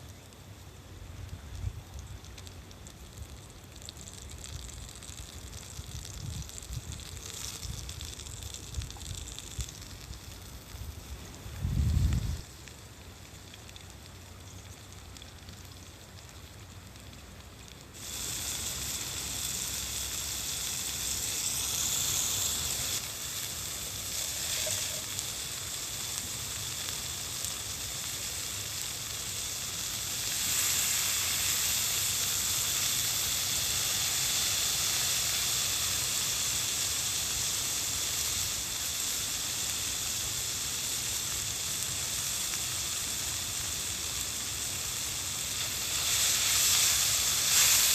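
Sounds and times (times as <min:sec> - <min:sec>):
food sizzling in a hot pan: 0:02.2 - 0:17.2, 0:17.8 - 0:47.9.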